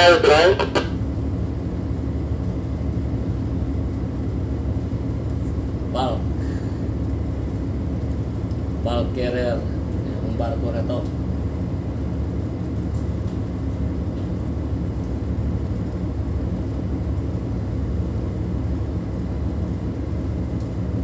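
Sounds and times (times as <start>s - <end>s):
diesel engines rumbling: 0.0s - 21.0s.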